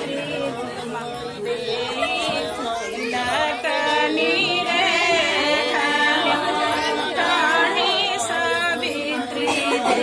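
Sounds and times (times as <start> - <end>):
women singing unaccompanied: 0.0 - 10.0.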